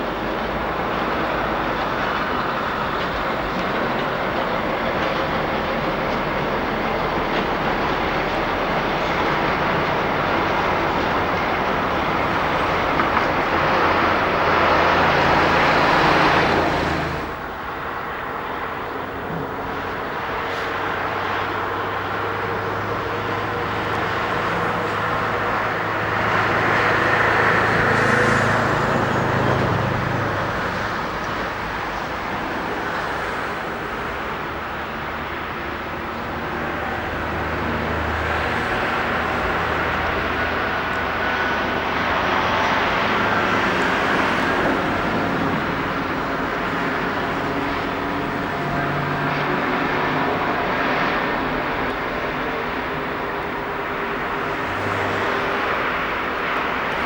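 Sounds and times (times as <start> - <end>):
diesel train engine humming: 0.0 - 57.0.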